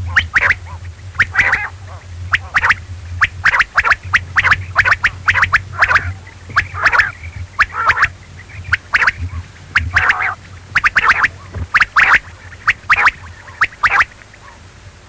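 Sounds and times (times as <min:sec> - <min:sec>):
quail chirping: 0:00.0 - 0:14.6
steady low hum: 0:00.0 - 0:15.0.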